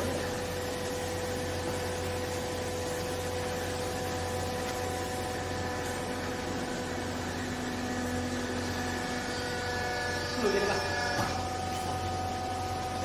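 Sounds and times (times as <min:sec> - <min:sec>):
electric motor and pump humming: 0:00.0 - 0:13.0.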